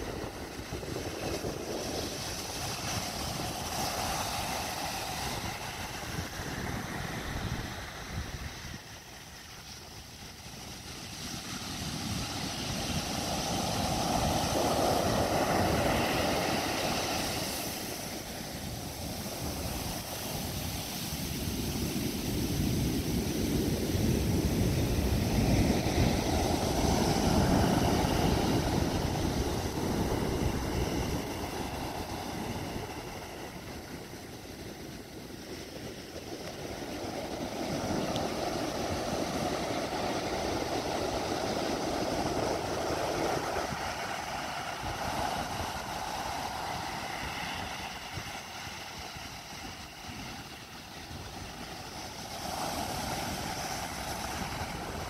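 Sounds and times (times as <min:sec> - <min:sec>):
heavy surf crashing on a beach: 0:00.0 - 0:55.0.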